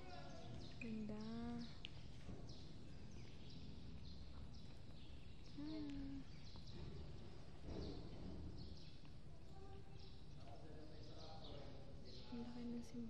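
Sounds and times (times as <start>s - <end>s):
low steady room hum: 0.0s - 13.0s
small birds chirping: 0.0s - 13.0s.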